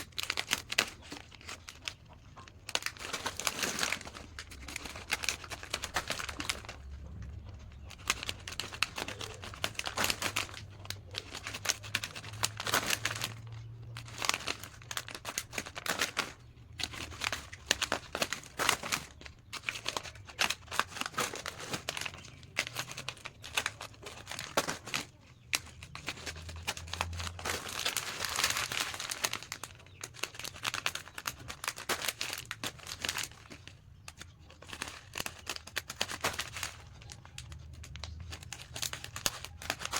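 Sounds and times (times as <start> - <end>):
plastic snack packets crinkling: 0.0 - 39.9.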